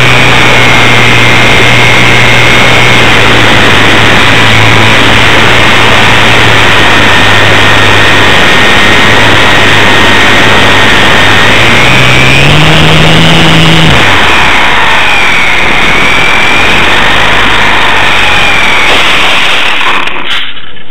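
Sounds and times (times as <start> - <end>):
model plane motor whining: 0.0 - 20.5.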